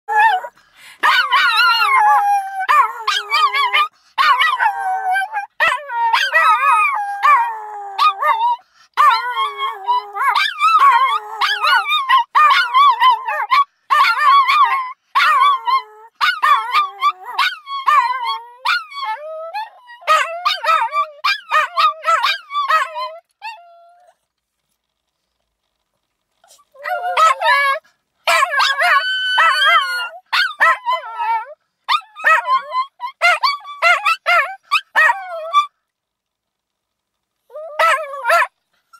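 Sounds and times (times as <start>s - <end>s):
small dog howling: 0.1s - 24.2s, 26.5s - 35.7s, 37.5s - 38.5s.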